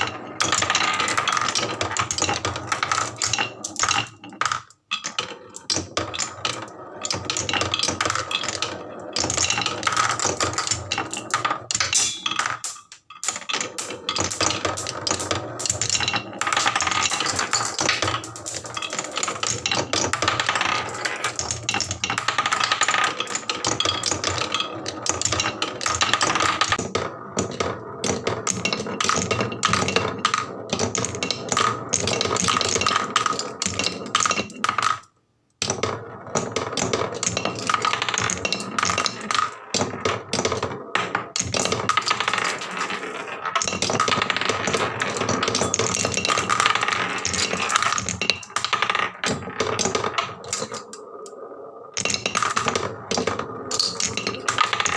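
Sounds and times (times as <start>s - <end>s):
marbles rattling down wooden tracks: 0.0s - 54.9s.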